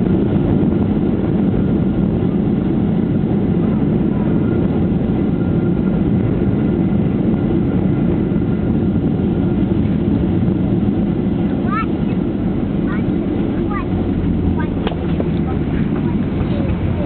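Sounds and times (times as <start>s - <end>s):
jet airliner cabin rumble: 0.0s - 17.0s.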